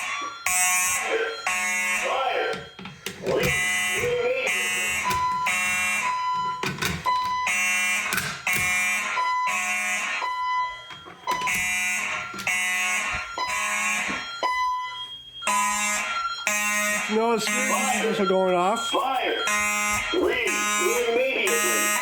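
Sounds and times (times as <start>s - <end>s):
high steady beeping tone: 0.0s - 8.1s, 8.7s - 22.0s
fire alarm horn blasts: 0.0s - 22.0s.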